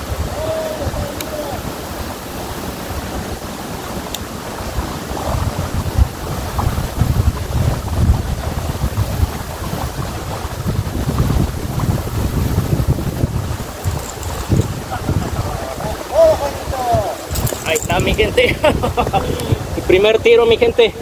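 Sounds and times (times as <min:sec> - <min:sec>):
river flowing: 0:00.0 - 0:21.0
wind buffeting microphone: 0:00.0 - 0:21.0.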